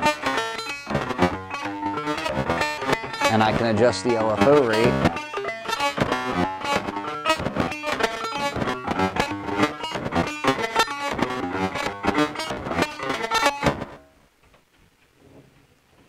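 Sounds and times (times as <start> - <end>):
synthesizer plucked notes: 0.0 - 14.1.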